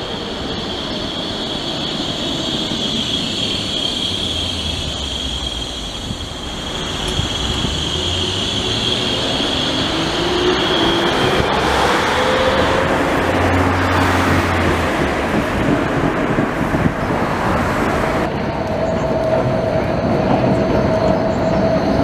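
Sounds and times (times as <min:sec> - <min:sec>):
high tram whine: 0:00.0 - 0:22.0
tram wheels rumbling on rails: 0:00.0 - 0:22.0.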